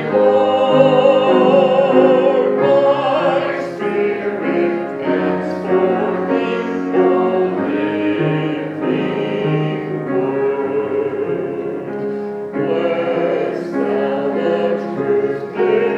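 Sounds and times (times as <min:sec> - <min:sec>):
choir singing held notes: 0:00.0 - 0:15.9.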